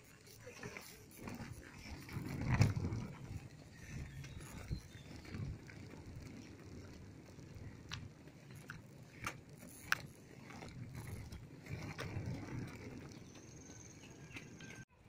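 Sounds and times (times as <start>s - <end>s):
wheels clicking over pebbles: 0.0s - 14.9s
skate wheels rolling on concrete: 0.0s - 15.0s.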